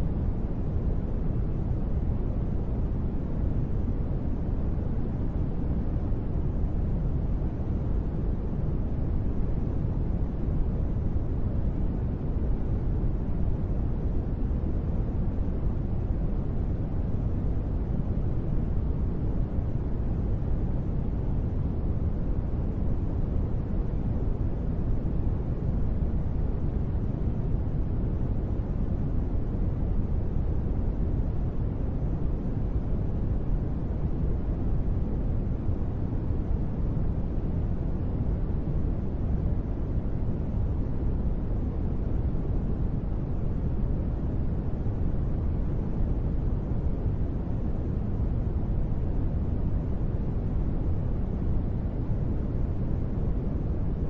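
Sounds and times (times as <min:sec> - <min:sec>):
deep rumbling white noise: 0:00.0 - 0:54.0.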